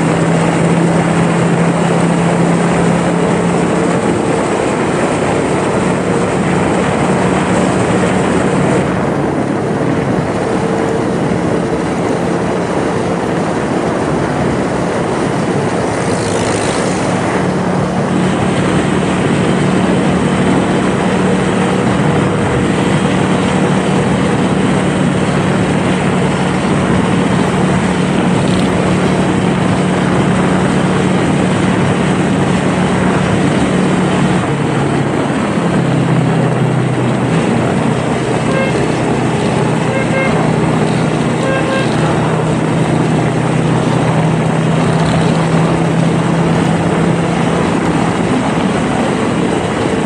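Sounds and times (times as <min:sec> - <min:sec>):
loud rushing noise: 0:00.0 - 0:50.0
motorcycle engine cruising: 0:00.0 - 0:50.0.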